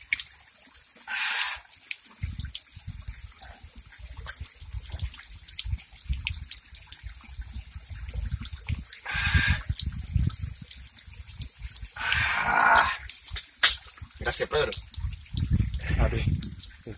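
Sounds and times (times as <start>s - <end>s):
water trickling from fountain: 0.0s - 16.9s.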